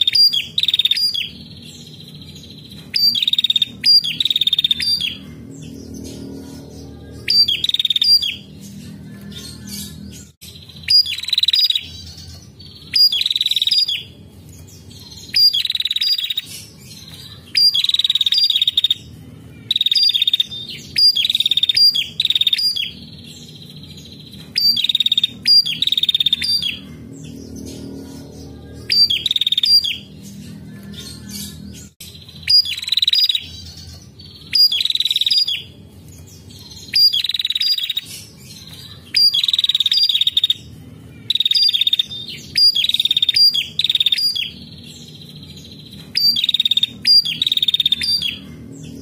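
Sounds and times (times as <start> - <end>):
bird high trilled calls: 0.0 - 5.8, 7.2 - 14.1, 15.0 - 16.6, 17.6 - 19.0, 19.7 - 28.2, 28.8 - 30.1, 30.8 - 35.7, 36.7 - 38.2, 38.8 - 49.0.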